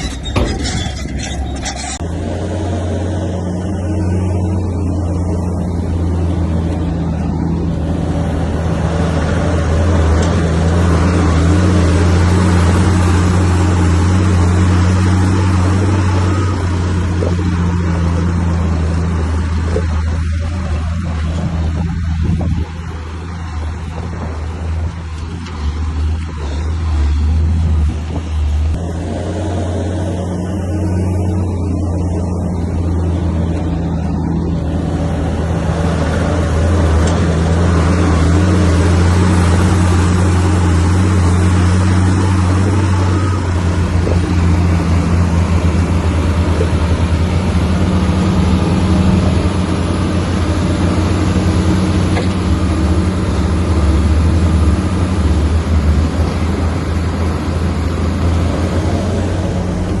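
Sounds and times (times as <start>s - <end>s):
bulldozer diesel engine: 0.0s - 60.0s.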